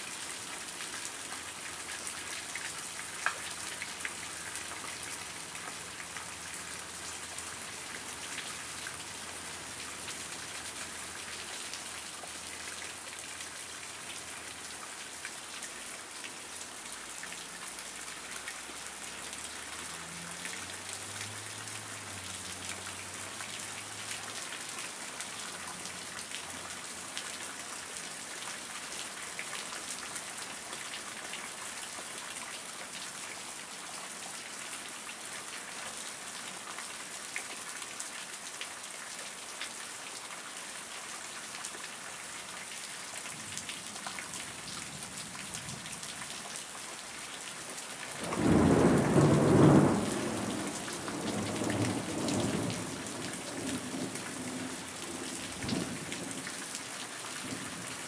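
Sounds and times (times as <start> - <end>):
heavy rain on grass and water: 0.0 - 58.0.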